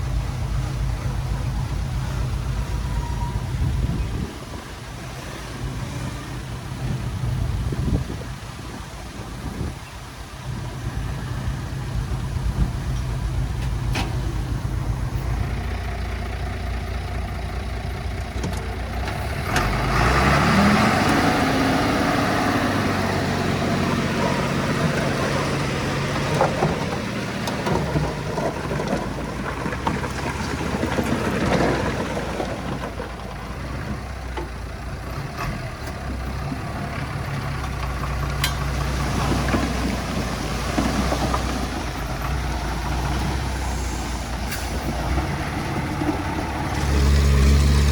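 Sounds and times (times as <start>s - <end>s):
diesel engine running and revving: 0.0s - 47.9s.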